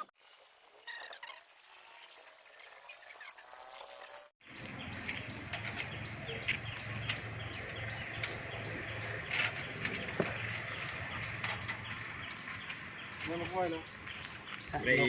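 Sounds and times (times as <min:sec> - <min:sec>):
bird chirps: 0:02.7 - 0:15.0.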